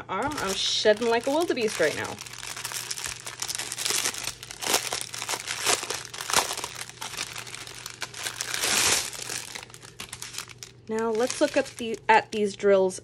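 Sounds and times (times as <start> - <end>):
plastic bags crinkling: 0.1 - 12.3.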